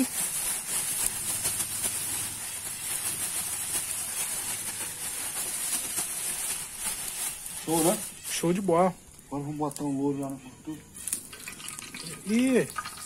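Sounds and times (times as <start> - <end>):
plastic bag rustling: 0.0 - 9.8, 10.9 - 13.0
steady high hiss: 0.0 - 13.0.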